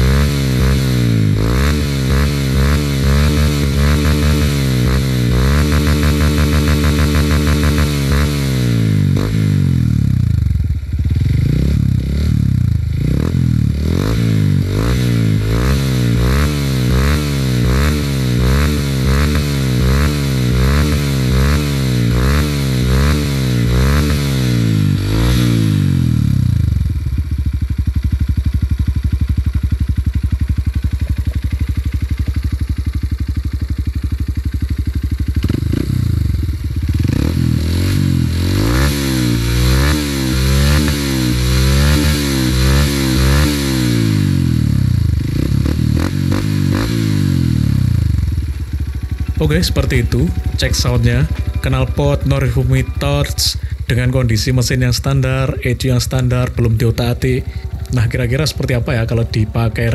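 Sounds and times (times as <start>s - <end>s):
motorcycle engine idling: 0.0s - 59.9s
motorcycle engine revving: 0.0s - 59.9s.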